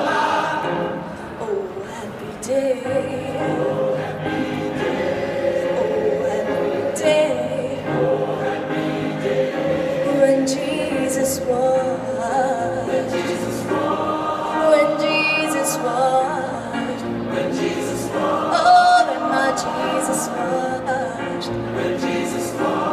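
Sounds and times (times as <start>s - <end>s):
choir singing long notes: 0.0s - 1.8s, 2.9s - 22.9s.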